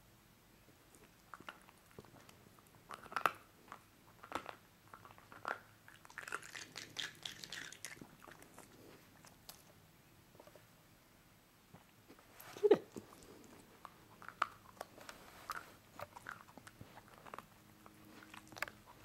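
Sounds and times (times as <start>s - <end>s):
dog chewing and crunching food: 0.7s - 9.8s, 11.7s - 19.0s.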